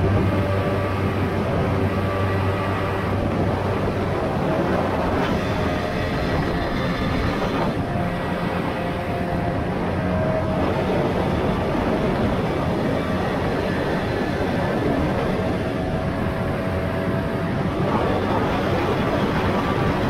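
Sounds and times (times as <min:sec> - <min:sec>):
outboard motor running: 0:00.0 - 0:20.0
water rushing against hull: 0:00.0 - 0:20.0.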